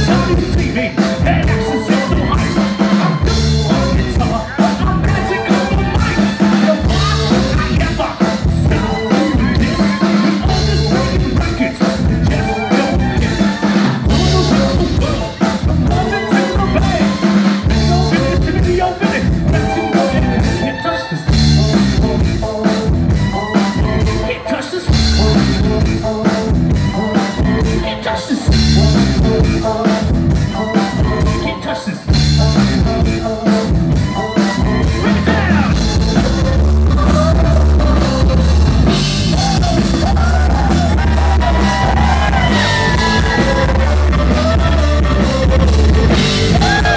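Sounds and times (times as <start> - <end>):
bass guitar: 0.0 - 46.9
drum kit beat: 0.0 - 46.9
person singing: 0.0 - 46.9.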